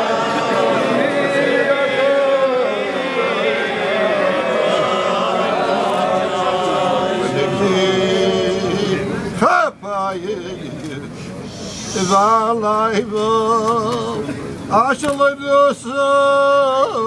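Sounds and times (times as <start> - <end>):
crowd of men singing: 0.0 - 11.1, 11.8 - 17.0.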